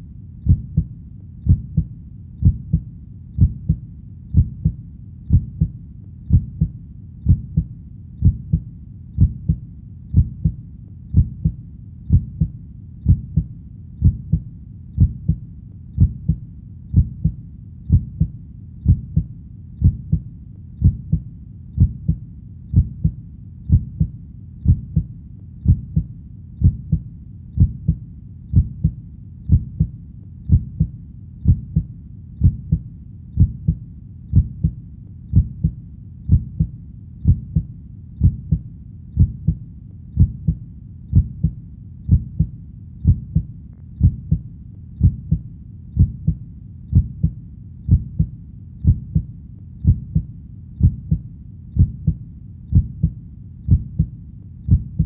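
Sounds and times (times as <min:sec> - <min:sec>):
heartbeat: 0:00.0 - 0:55.0.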